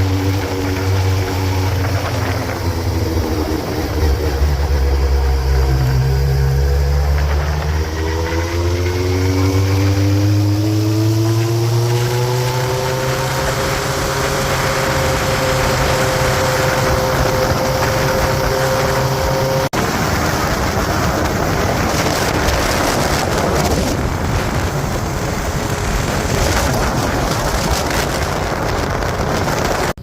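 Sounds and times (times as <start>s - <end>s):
motorcycle engine drone: 0.0s - 30.0s
wind rush on microphone: 0.0s - 30.0s.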